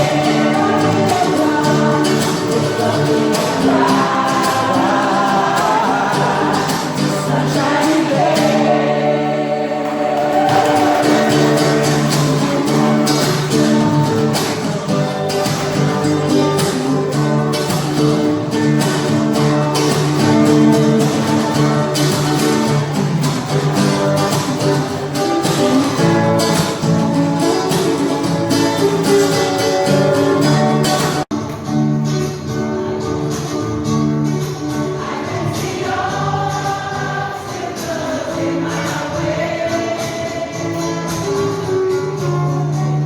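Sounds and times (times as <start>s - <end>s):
music with strummed chords: 0.0s - 43.0s.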